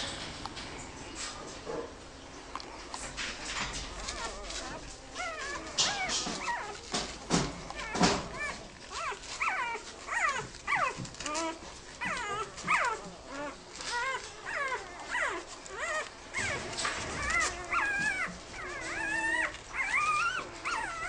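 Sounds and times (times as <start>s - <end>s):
puppies whimpering and yelping: 3.4s - 21.0s.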